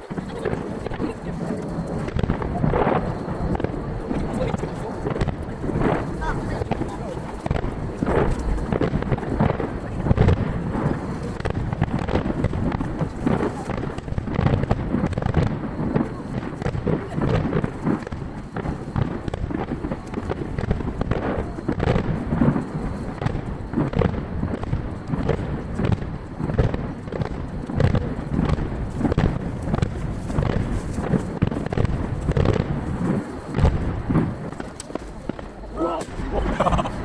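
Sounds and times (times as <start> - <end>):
distant firework booms echoing: 0.0 - 37.0.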